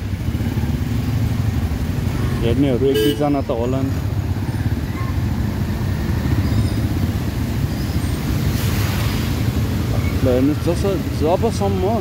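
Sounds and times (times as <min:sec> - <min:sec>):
city traffic rumble: 0:00.0 - 0:12.0
engine and road noise: 0:00.0 - 0:12.0.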